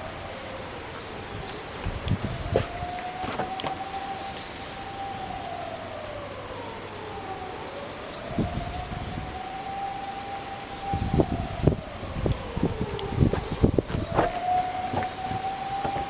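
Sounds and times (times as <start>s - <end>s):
distant siren wailing: 0.0s - 16.0s
outdoor background noise: 0.0s - 16.0s.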